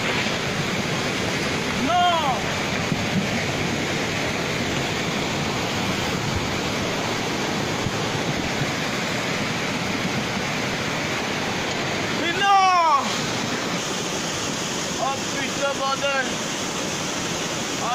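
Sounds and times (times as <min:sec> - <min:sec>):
flood water rushing: 0:00.0 - 0:17.9.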